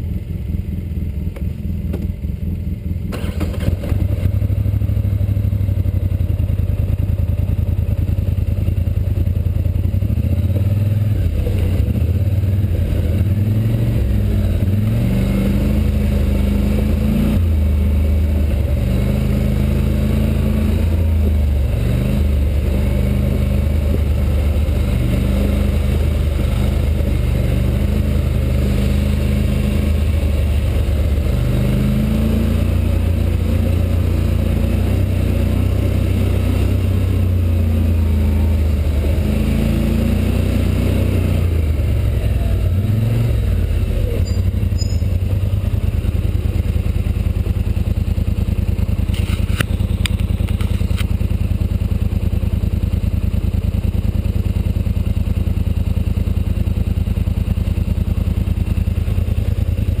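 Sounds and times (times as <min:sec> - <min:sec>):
atv engine running: 0:00.0 - 1:00.0.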